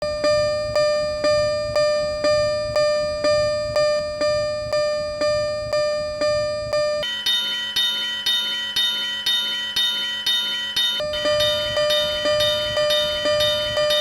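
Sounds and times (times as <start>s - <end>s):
level crossing alarm bell ringing: 0.0s - 14.0s.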